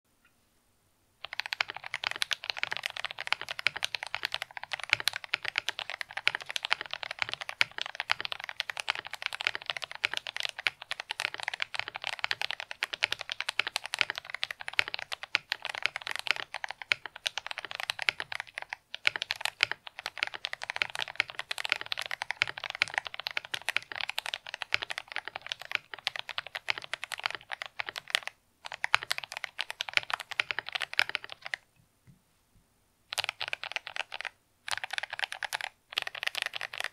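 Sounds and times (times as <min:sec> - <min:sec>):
mechanical keyboard typing: 0:01.2 - 0:31.6, 0:33.1 - 0:36.9.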